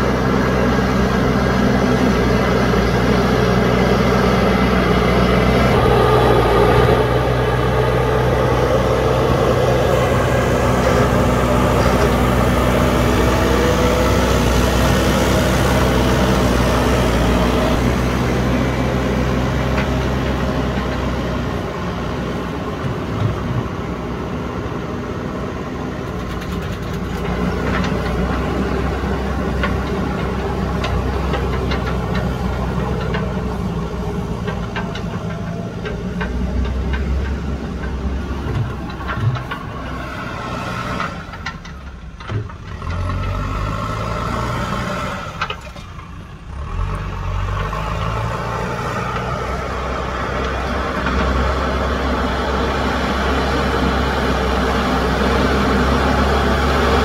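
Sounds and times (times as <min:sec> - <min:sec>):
diesel engine working under load: 0:00.0 - 0:57.0.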